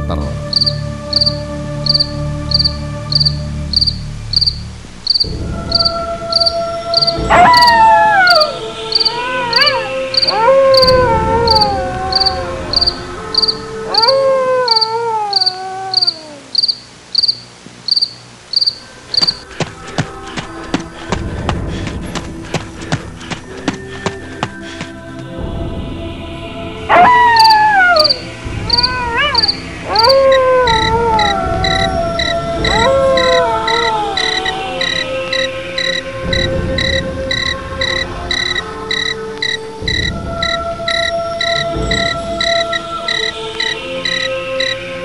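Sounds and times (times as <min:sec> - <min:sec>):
low music drone: 0:00.0 - 0:17.7, 0:18.4 - 0:45.0
long wavering cries: 0:00.0 - 0:25.2, 0:26.6 - 0:45.0
crickets chirping: 0:00.4 - 0:45.0.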